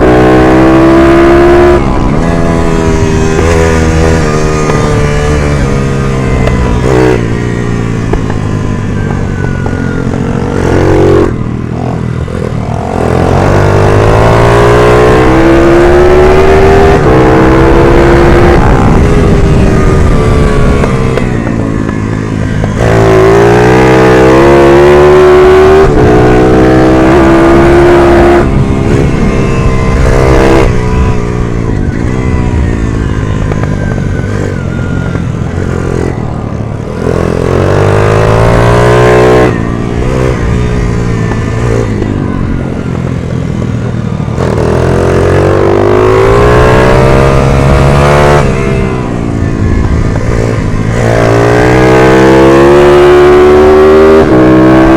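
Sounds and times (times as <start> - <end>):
minibike engine revving: 0.0 - 54.9.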